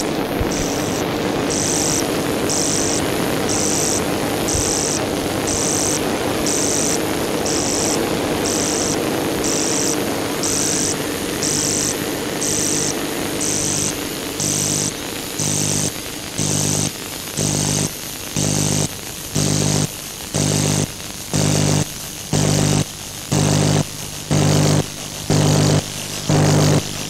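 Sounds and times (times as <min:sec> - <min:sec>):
electronic hiss and hum: 0:00.0 - 0:27.0.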